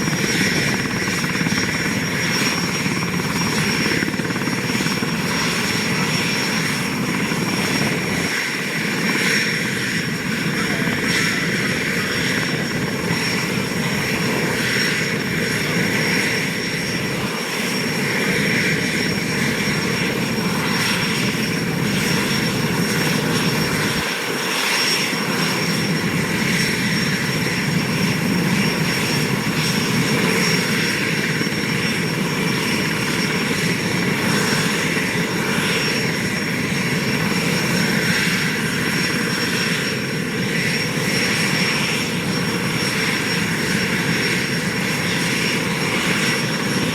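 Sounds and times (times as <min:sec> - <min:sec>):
helicopter engines running: 0:00.0 - 0:46.9
high turbine whine: 0:00.0 - 0:46.9.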